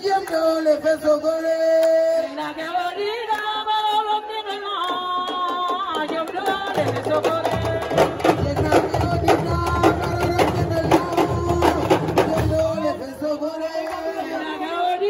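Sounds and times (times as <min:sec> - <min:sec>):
woman singing through loudspeaker: 0:00.0 - 0:15.0.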